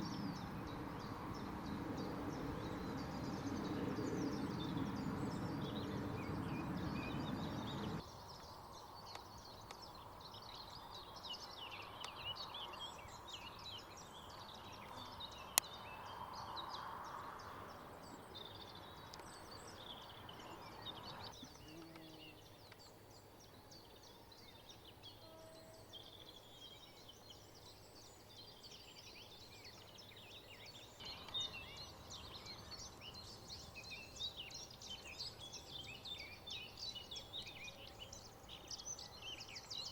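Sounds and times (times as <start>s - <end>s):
small birds singing and chirping: 0.0s - 39.9s.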